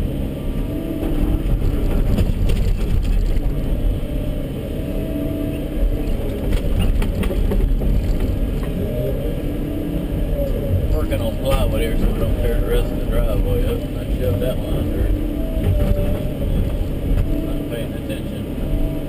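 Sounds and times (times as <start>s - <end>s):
diesel engine running: 0.0s - 19.0s
hydraulic whine: 0.0s - 19.0s.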